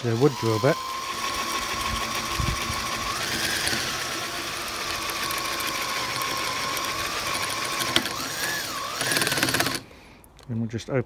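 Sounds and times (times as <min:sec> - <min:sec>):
electric drill boring plastic: 0:00.0 - 0:09.9.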